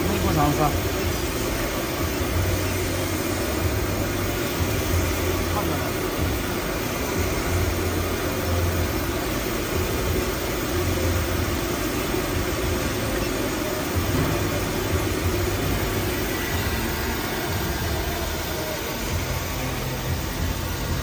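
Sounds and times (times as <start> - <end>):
machinery drone: 0.0 - 21.0.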